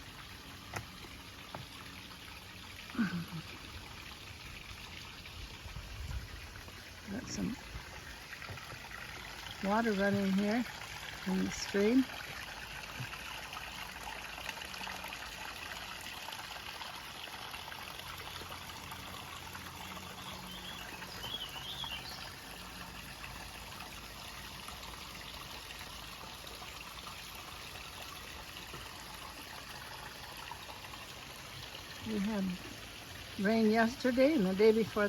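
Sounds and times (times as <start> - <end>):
stream trickling and splashing: 0.0 - 35.0.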